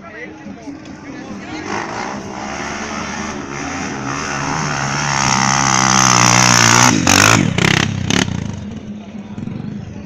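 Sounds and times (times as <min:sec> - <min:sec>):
dirt bike engine approaching: 0:01.1 - 0:10.0.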